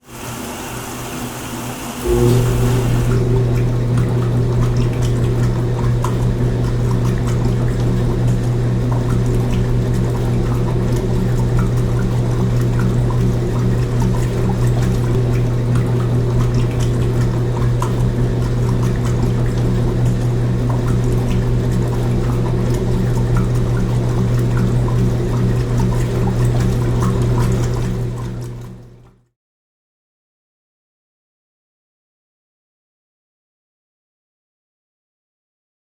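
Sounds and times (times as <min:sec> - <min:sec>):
washing machine humming: 0:00.0 - 0:29.2
water sloshing in drum: 0:00.1 - 0:29.2.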